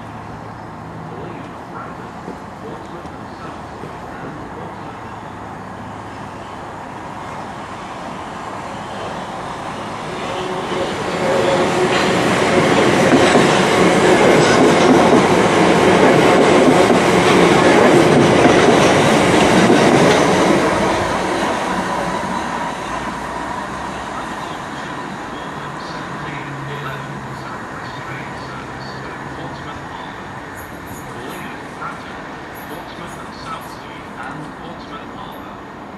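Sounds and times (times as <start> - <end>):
train passing: 0.0 - 35.9.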